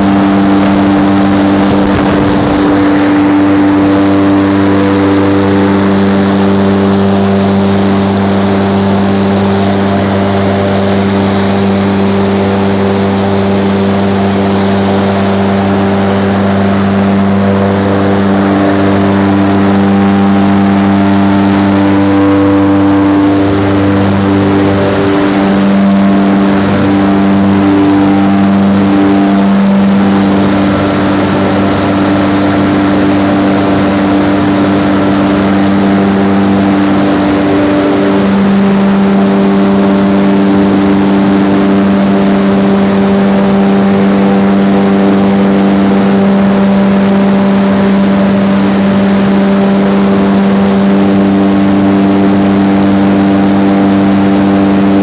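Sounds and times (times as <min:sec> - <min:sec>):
ventilator fan humming: 0:00.0 - 0:55.0.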